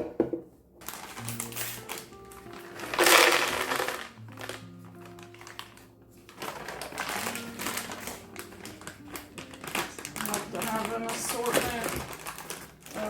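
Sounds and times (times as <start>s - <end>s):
soft background music: 0.0s - 13.0s
chocolate chips pouring into container: 0.9s - 5.8s, 6.4s - 13.0s.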